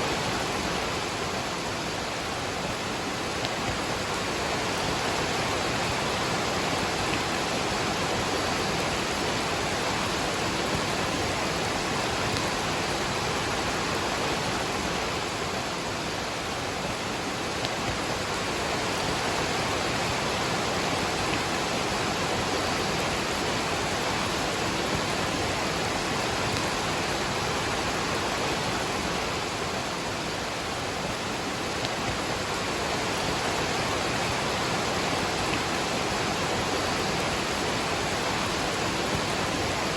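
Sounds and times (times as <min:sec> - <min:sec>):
rain: 0:00.0 - 0:39.9
waterfall rushing: 0:00.0 - 0:39.9.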